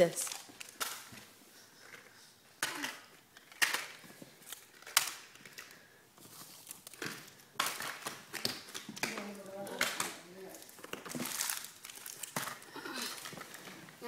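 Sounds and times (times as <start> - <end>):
candy wrappers crinkling: 0.0 - 1.2, 1.8 - 14.0.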